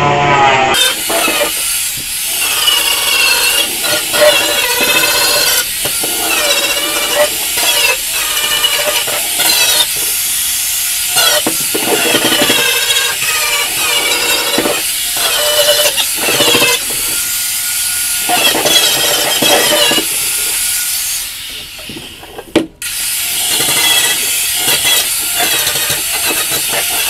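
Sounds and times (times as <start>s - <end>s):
angle grinder grinding steel: 0.3s - 27.0s.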